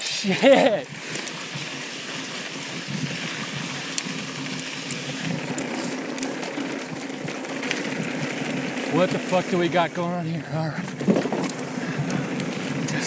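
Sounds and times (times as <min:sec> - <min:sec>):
bike clicks: 0:00.0 - 0:13.0
bike tyres rolling over dirt: 0:00.1 - 0:13.0.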